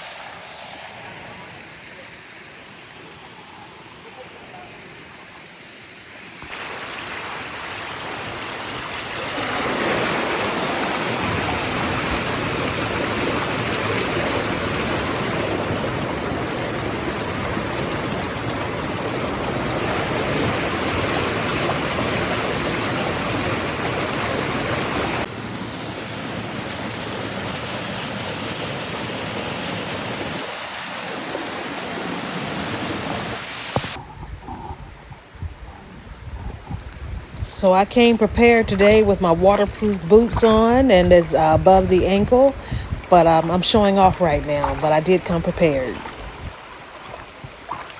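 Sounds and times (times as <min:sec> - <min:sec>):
creek water rushing: 0:00.0 - 0:34.0, 0:38.4 - 0:47.9.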